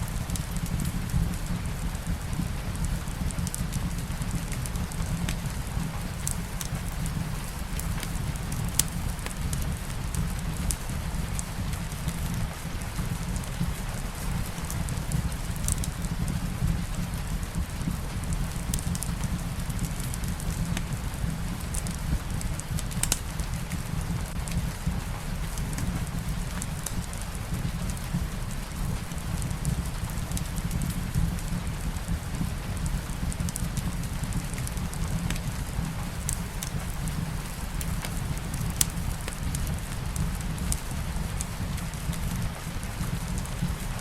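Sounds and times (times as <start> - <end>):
light rain: 0.0 - 44.0
wood fire crackling: 0.0 - 44.0.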